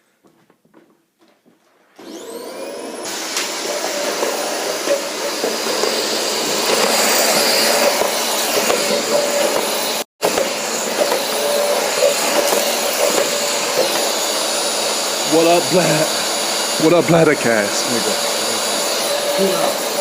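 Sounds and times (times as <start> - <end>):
vacuum cleaner motor whine: 2.0 - 20.0.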